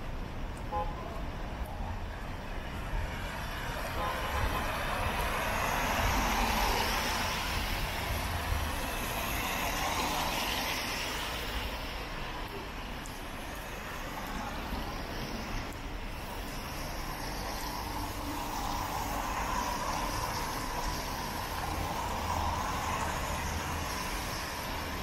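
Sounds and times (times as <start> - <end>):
low traffic rumble: 0.0 - 25.0
tyres hissing on wet road: 0.0 - 25.0.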